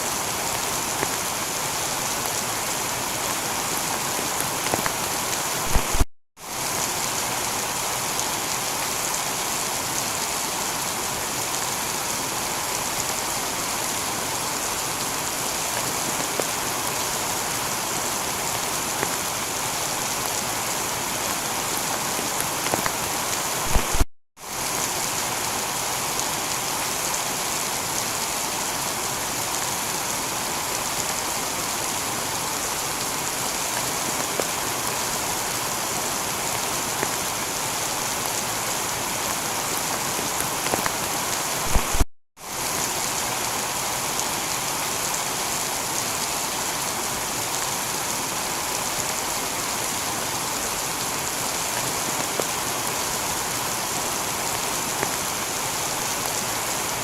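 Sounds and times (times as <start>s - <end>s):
heavy rain on a tiled roof: 0.0s - 57.0s.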